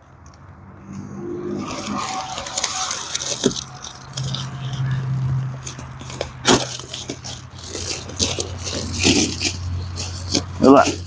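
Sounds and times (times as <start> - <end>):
sharp crackles: 1.6 - 11.0
plastic tent material crinkling: 1.7 - 11.0.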